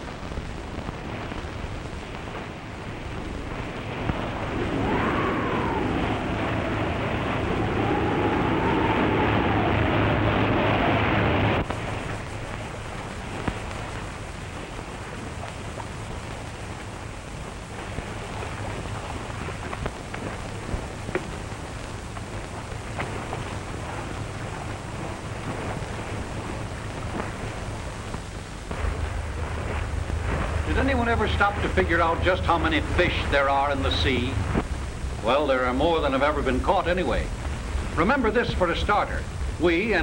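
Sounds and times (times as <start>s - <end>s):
film soundtrack hiss and crackles: 0.0s - 40.0s.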